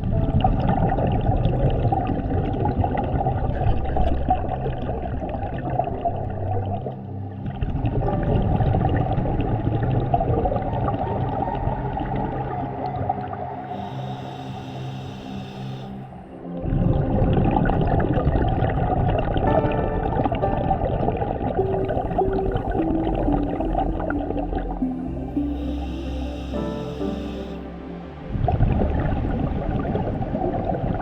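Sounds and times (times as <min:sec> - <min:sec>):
underwater exhaust bubbles gurgling: 0:00.0 - 0:31.0.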